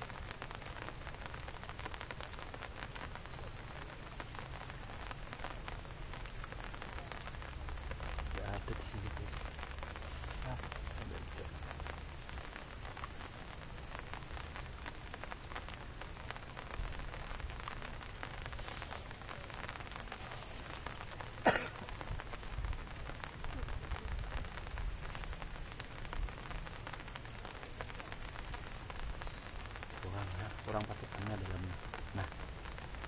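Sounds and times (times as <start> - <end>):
rain falling on water and reeds: 0.0 - 33.0.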